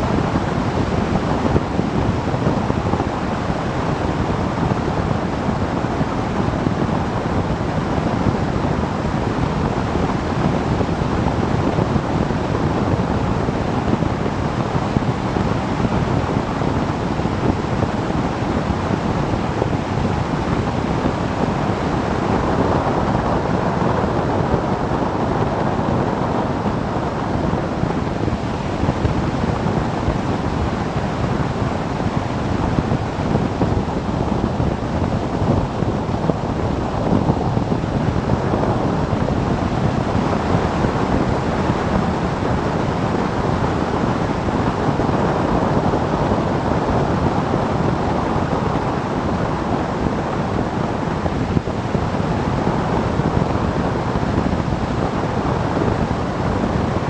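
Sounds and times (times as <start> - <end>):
wind rush over microphone: 0.0 - 57.0.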